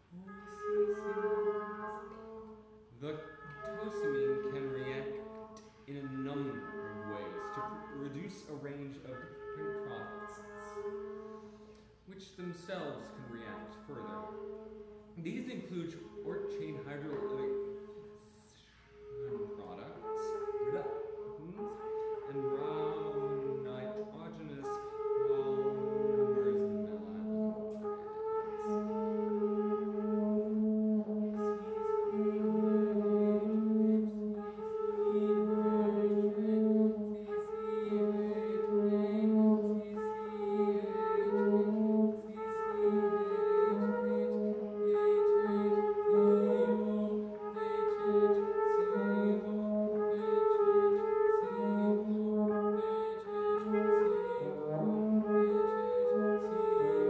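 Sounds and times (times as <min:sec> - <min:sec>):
chamber music for brass and clarinet: 0:00.0 - 0:57.0.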